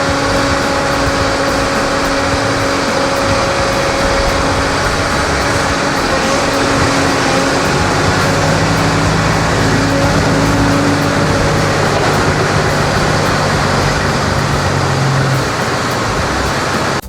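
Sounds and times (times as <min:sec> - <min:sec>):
diesel engine running: 0:00.0 - 0:17.0
low tone: 0:00.0 - 0:17.0.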